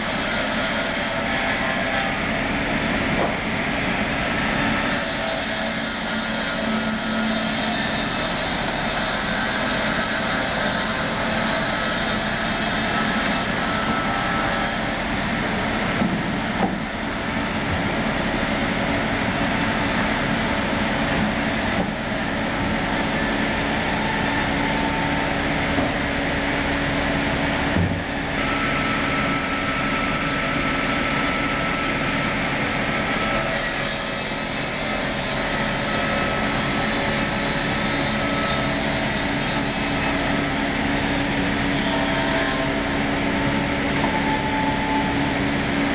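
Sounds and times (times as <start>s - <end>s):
circular saw cutting log: 0.0s - 45.9s.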